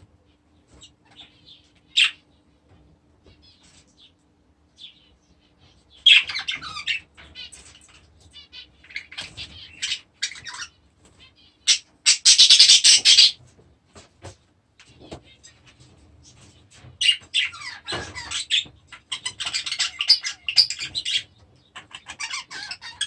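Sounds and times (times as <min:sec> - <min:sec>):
small birds chirping and squawking: 0:00.0 - 0:23.0.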